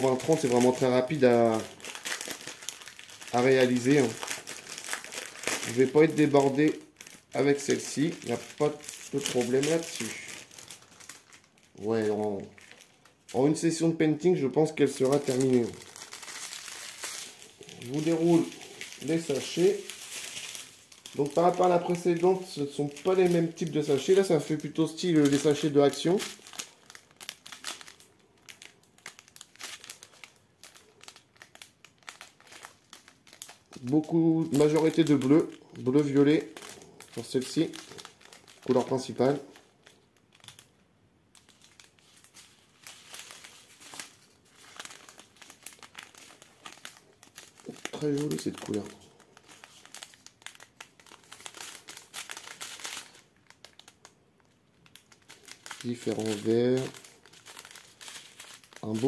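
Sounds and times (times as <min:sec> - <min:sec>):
plastic bags crinkling: 0:00.0 - 0:59.0.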